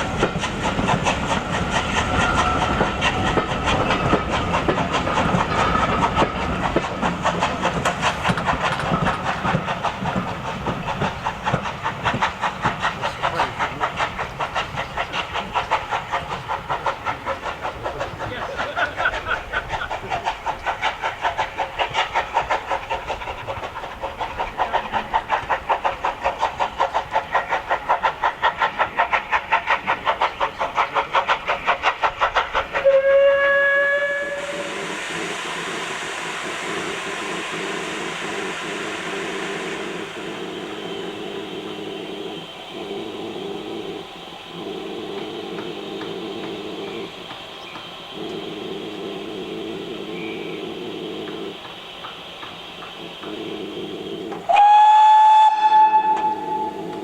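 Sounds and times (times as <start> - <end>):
steam hissing: 0.0 - 57.0
steam locomotive exhaust beats: 0.0 - 57.0.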